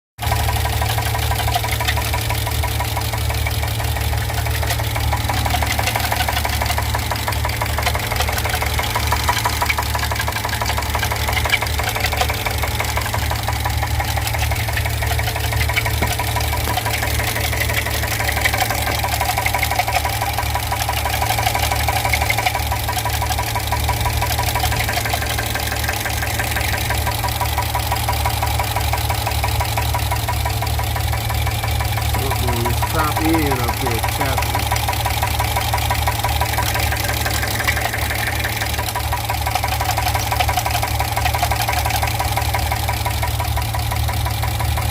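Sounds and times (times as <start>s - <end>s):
engine running: 0.2s - 44.9s
fast even engine knock: 0.2s - 44.9s.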